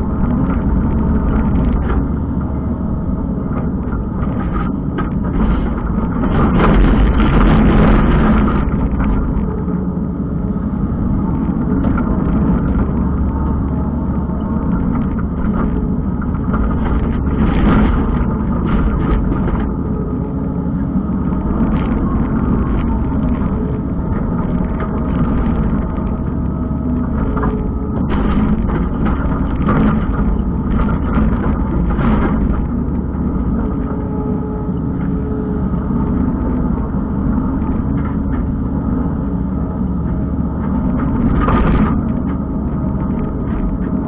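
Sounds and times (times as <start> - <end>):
skid steer diesel engine running: 0.0 - 44.0.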